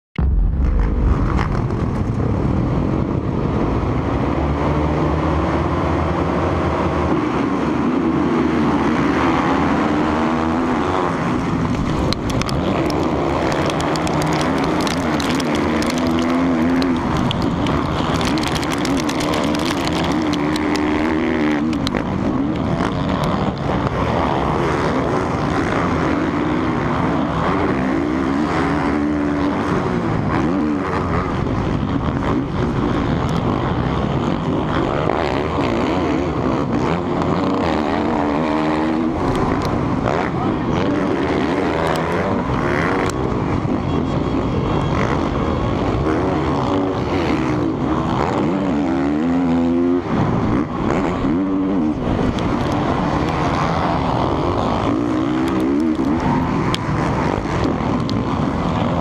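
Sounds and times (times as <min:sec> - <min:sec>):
motocross bike engine revving: 0:00.2 - 0:59.0
surrounding motorbike engines: 0:00.2 - 0:59.0.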